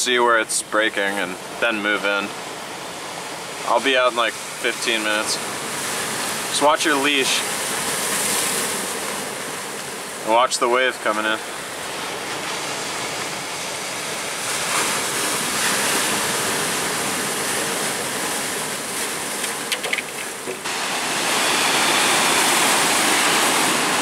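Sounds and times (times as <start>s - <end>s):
waves washing over rocky shore: 0.0s - 24.0s.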